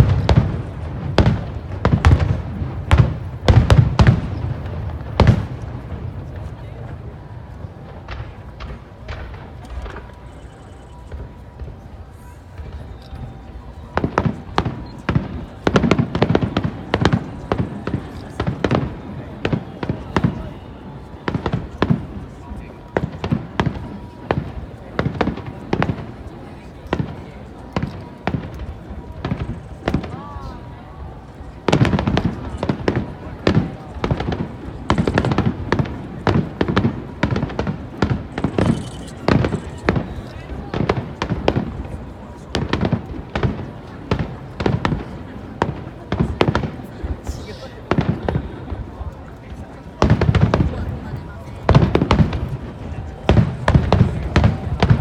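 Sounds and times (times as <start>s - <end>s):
fireworks bursting with sharp bangs: 0.0s - 55.0s.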